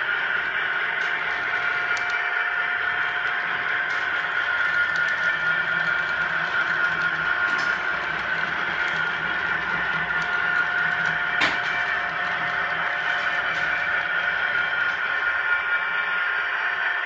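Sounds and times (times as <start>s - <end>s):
model train motor whine: 0.0s - 17.0s
wheels running on track: 0.0s - 17.0s.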